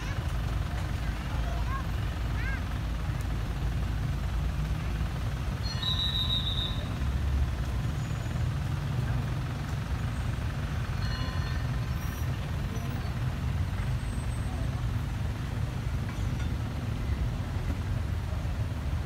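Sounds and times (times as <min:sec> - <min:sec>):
train coaches rumbling on track: 0:00.0 - 0:19.0.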